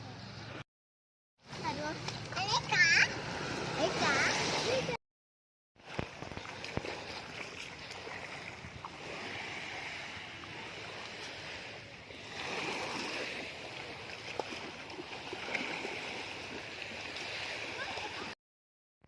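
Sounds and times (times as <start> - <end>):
small waves washing onto beach: 1.4 - 5.0, 5.8 - 18.4.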